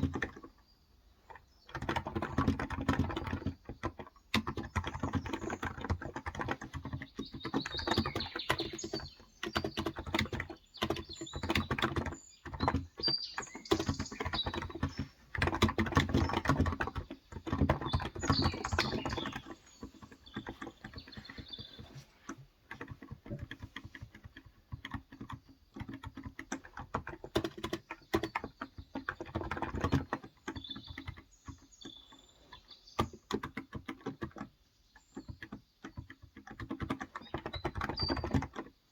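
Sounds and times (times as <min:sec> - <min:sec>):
fast typing on keyboard: 0:00.0 - 0:00.6, 0:01.3 - 0:38.9
faint birds chirping: 0:00.0 - 0:38.9.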